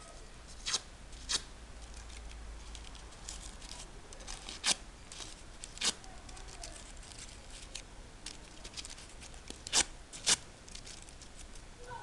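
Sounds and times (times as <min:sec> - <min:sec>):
shears snipping paper: 0:00.6 - 0:11.6
paper crackling: 0:00.6 - 0:12.0.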